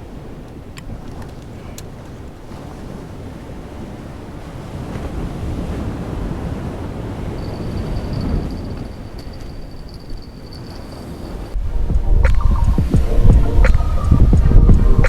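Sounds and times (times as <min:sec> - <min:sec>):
sea surf: 0:00.0 - 0:15.0
wind rumbling on microphone: 0:00.0 - 0:15.0.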